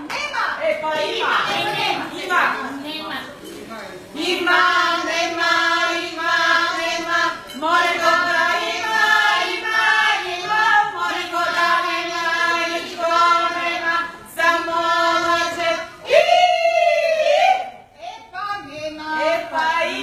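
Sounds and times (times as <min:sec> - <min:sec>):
women singing unaccompanied: 0:00.0 - 0:02.8, 0:04.1 - 0:20.0.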